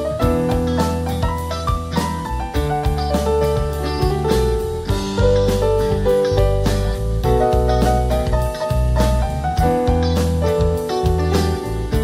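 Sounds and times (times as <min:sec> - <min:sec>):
bass guitar: 0:00.0 - 0:12.0
drum kit beat: 0:00.0 - 0:12.0
electric guitar: 0:00.0 - 0:12.0
keyboard: 0:00.0 - 0:12.0.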